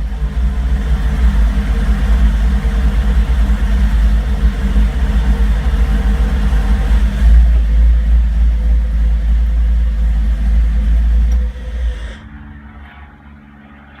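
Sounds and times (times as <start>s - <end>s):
car engine idling roughly: 0.0s - 12.4s
faint low hum: 0.0s - 14.0s.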